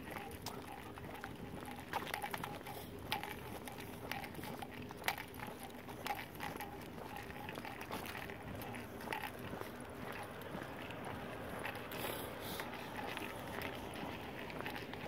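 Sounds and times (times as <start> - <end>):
footsteps on concrete: 0.0 - 15.0.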